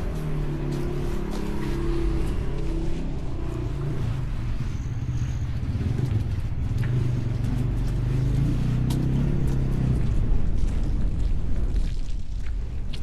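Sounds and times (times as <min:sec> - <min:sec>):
vehicle engine humming: 0:00.0 - 0:11.8.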